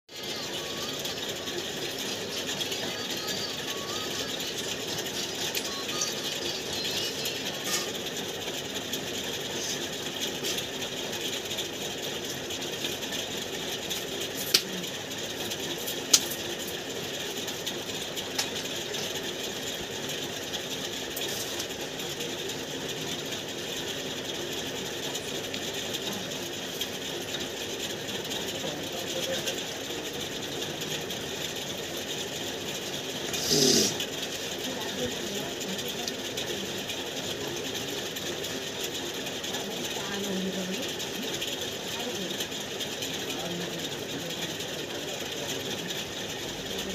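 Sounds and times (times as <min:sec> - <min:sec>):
ceiling fan humming: 0:00.1 - 0:46.9.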